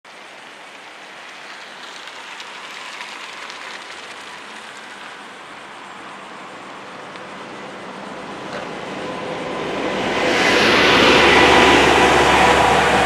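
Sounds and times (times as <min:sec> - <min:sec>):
road traffic hiss: 0:00.1 - 0:13.0.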